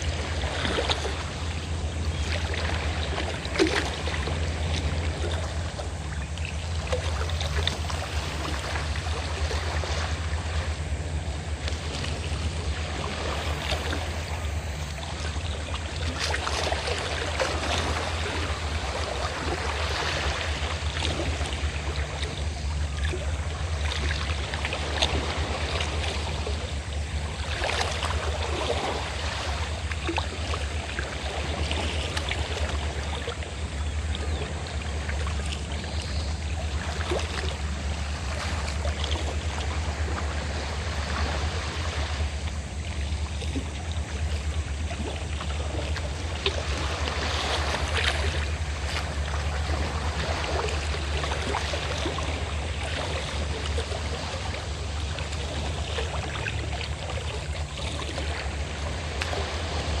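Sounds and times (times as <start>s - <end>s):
boat engine drone: 0.0s - 60.0s
sea waves washing on shore: 0.0s - 60.0s.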